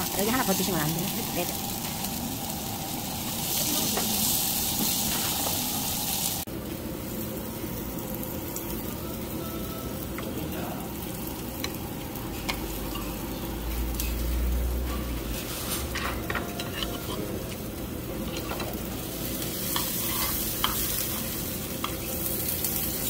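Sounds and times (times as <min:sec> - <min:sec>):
beef sizzling on a grill pan: 0:00.0 - 0:14.8, 0:16.6 - 0:23.0.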